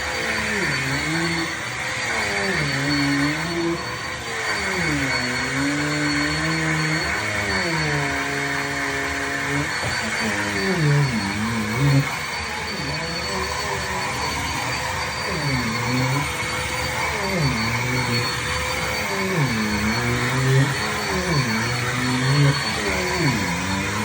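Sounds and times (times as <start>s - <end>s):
vacuum cleaner running: 0.0s - 24.0s
wavering voice-like tones: 0.0s - 24.0s.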